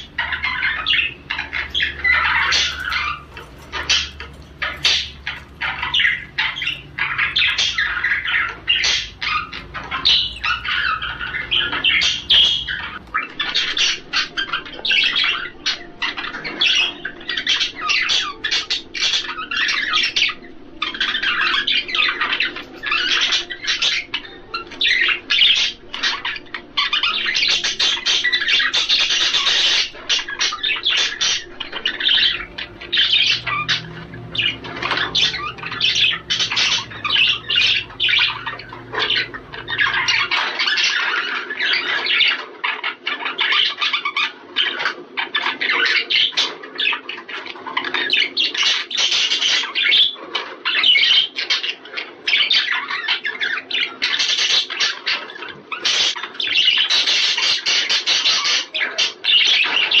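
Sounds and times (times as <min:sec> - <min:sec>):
budgerigars chattering and warbling: 0:00.0 - 1:00.0.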